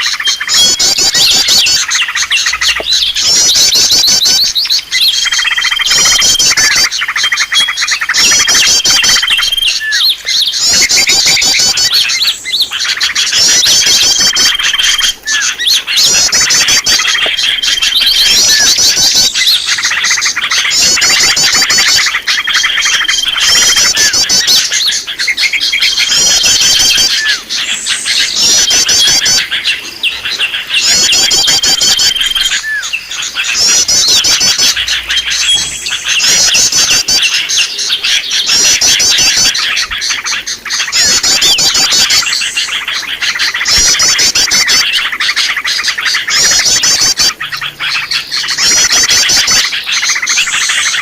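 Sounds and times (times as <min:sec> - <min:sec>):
rapid high chirps and whistle: 0:00.0 - 0:51.0
songbirds chorus: 0:00.0 - 0:51.0.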